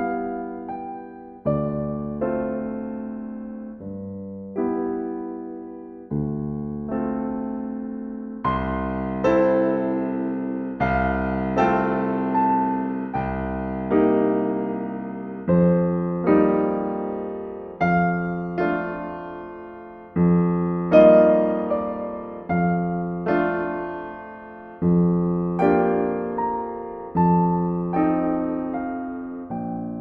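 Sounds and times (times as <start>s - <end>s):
slow soft solo piano: 0.0s - 30.0s.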